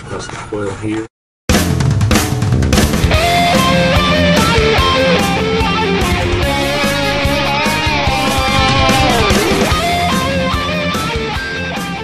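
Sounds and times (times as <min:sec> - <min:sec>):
rock music with electric guitar: 0:02.2 - 0:12.0.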